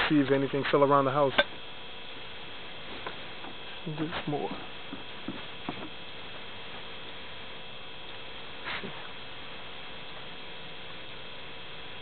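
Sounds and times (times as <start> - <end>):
electrical hum with hiss: 0.0 - 12.0
thin steady tones: 0.0 - 12.0.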